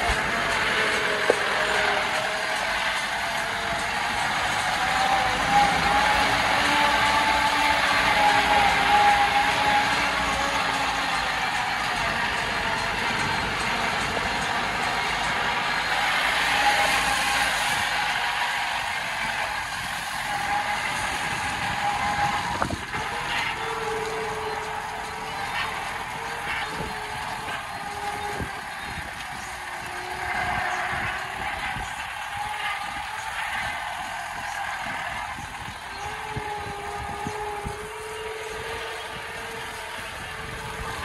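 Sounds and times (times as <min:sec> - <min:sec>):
off-road vehicle tyre noise: 0:00.0 - 0:41.0.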